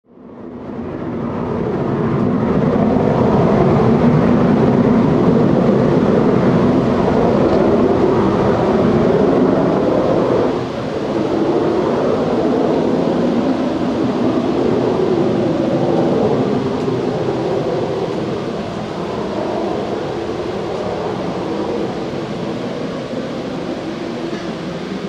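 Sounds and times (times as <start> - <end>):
jet engines running loudly: 0.1 - 25.0.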